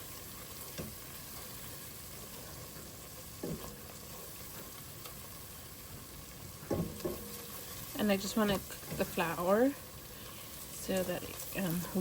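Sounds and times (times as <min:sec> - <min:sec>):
roux sizzling in a pan: 0:00.0 - 0:12.0.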